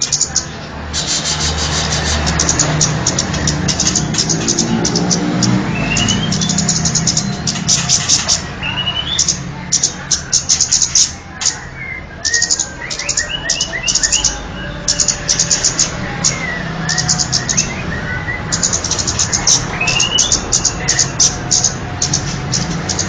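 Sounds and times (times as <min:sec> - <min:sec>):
gliding whistled bird notes: 0:00.0 - 0:23.0
high bird chirps: 0:00.0 - 0:23.0.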